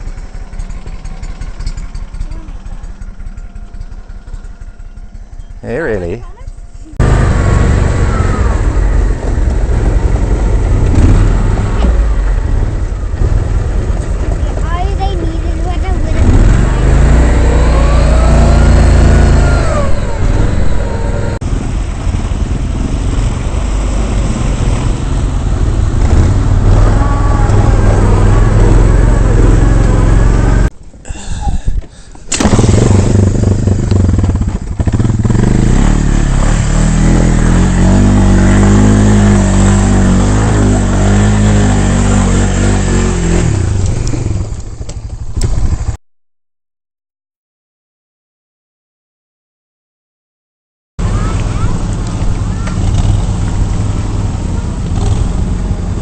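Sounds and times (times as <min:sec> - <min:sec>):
atv engine revving: 0:00.0 - 0:46.0, 0:51.0 - 0:56.0.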